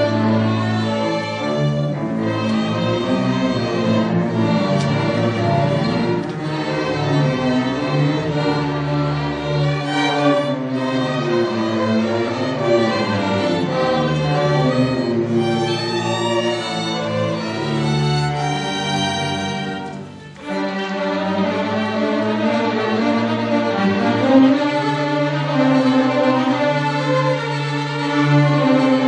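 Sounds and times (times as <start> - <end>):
string orchestra playing: 0.0 - 29.0.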